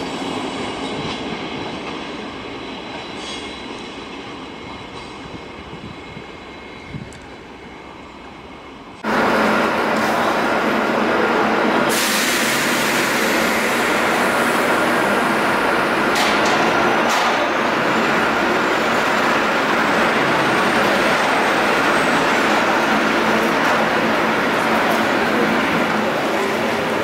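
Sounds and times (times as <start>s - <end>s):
train machinery hum and hiss: 0.0s - 27.0s.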